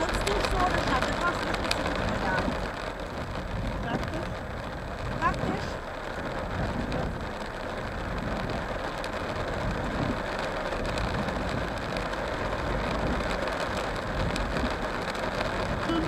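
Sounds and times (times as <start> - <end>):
low car hum: 0.0 - 16.0
rain on car roof: 0.0 - 16.0
raindrop ticks: 0.0 - 16.0.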